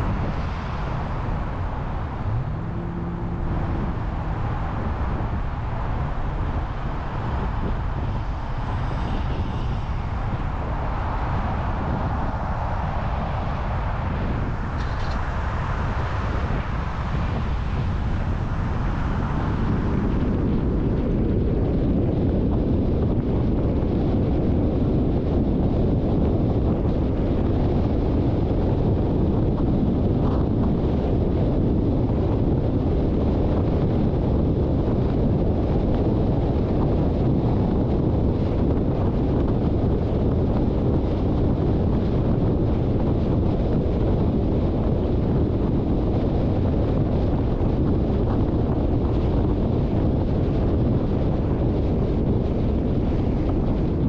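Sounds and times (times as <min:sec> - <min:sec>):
road and wind rumble: 0:00.0 - 0:54.0
wind buffeting microphone: 0:00.0 - 0:54.0.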